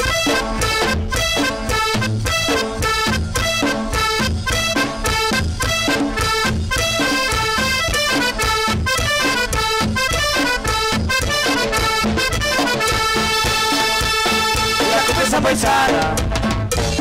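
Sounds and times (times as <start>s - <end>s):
band playing with accordion: 0.0s - 17.0s.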